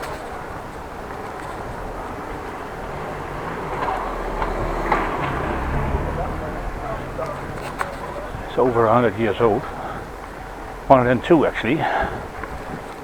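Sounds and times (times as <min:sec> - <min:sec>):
bicycle rattling clicks: 0:00.0 - 0:13.0
bicycle tyres rolling on street: 0:00.0 - 0:13.0
wind noise: 0:00.0 - 0:13.0.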